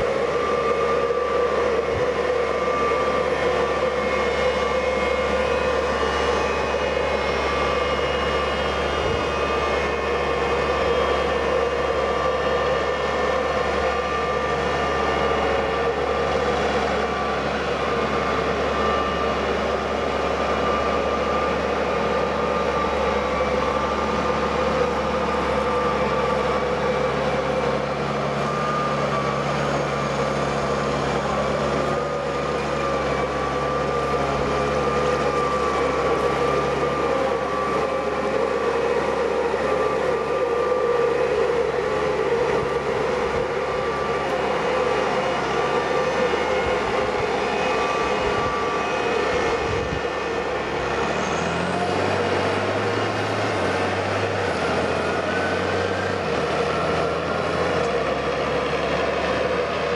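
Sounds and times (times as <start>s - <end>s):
small propellers droning: 0.0s - 59.9s.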